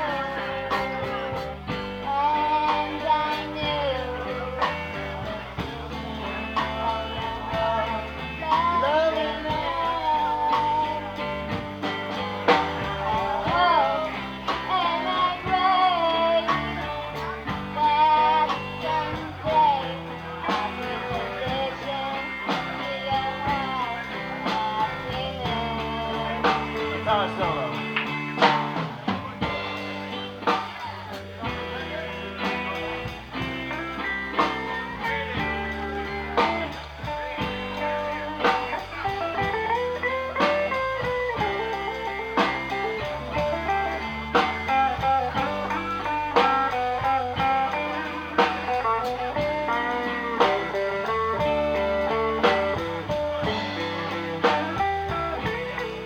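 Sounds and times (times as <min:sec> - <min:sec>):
electric guitar: 0:00.0 - 0:56.0
person singing: 0:00.0 - 0:56.0.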